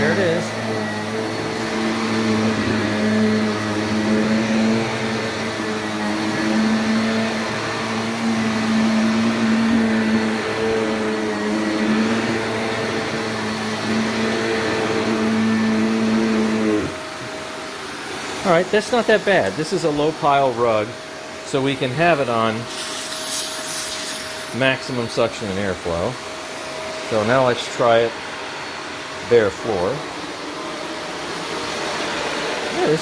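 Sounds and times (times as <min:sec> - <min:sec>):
vacuum cleaner motor drone: 0:00.0 - 0:33.0.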